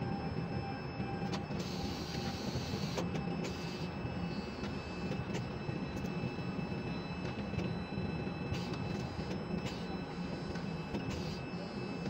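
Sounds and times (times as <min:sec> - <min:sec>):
crane machinery humming: 0:00.0 - 0:12.0.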